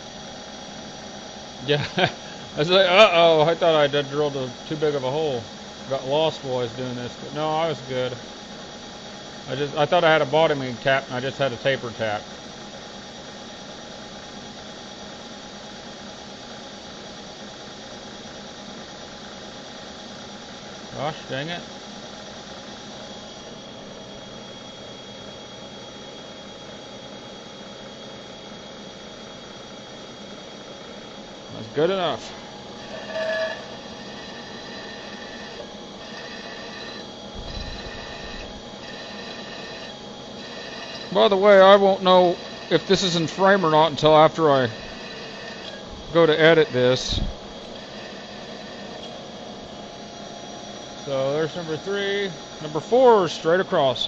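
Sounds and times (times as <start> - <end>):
milling machine humming: 0.0 - 54.0.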